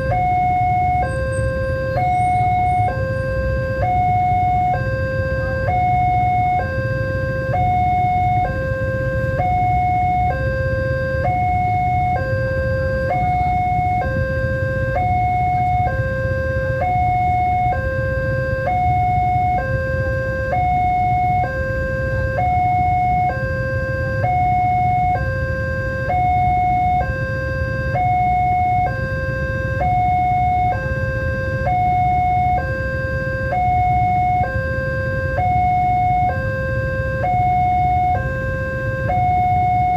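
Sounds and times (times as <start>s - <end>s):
level crossing alarm: 0.0s - 39.9s.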